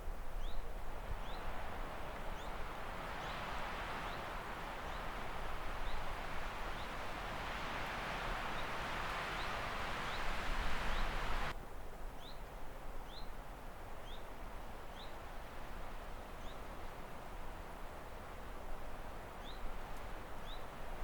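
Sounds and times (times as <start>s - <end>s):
outdoor ambience hiss: 0.0s - 21.0s.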